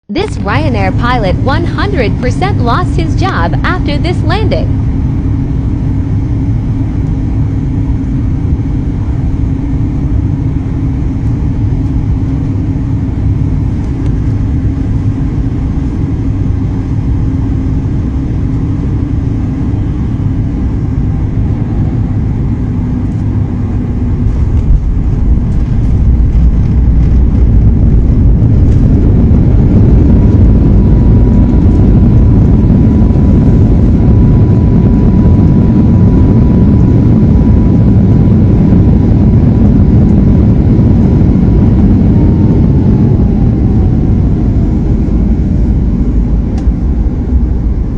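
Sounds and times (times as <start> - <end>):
airliner engine rumble: 0.0 - 47.9
steady whine: 0.0 - 47.9.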